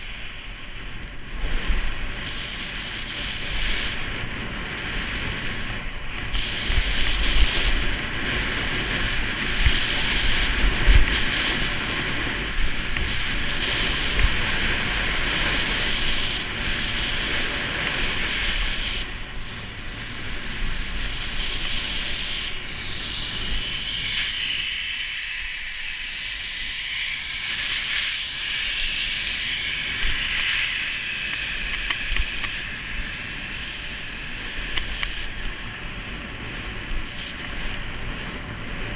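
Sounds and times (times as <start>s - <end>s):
skis hissing through snow: 0.0s - 38.9s
wind buffeting microphone: 0.0s - 38.9s.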